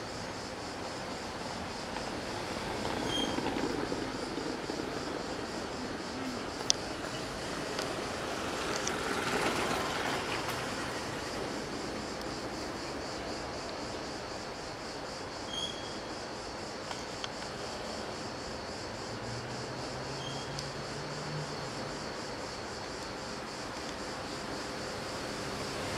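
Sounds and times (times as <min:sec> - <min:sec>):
insects chirring: 0:00.0 - 0:25.9
street noise: 0:00.0 - 0:25.9
motor scooter passing on cobblestones: 0:00.2 - 0:13.9, 0:17.6 - 0:25.9.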